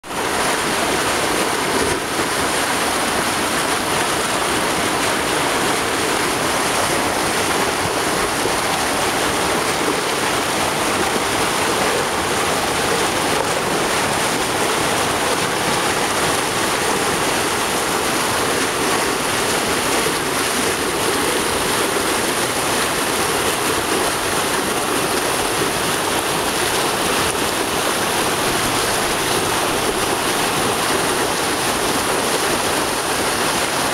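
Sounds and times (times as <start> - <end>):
river rushing: 0.0 - 33.9.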